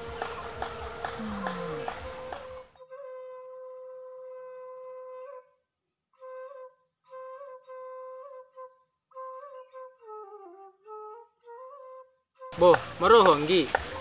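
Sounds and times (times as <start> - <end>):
solo flute melody: 0.0 - 14.0.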